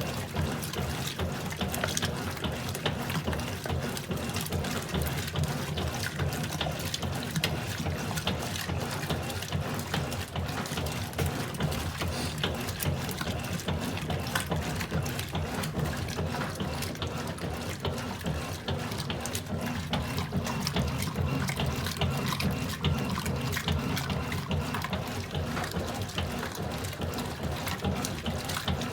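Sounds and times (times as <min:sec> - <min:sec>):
water splashing in washing machine: 0:00.0 - 0:28.9.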